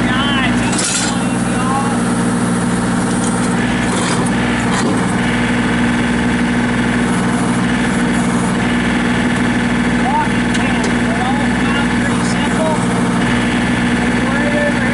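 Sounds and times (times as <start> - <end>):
tractor diesel engine idling: 0.0 - 14.9.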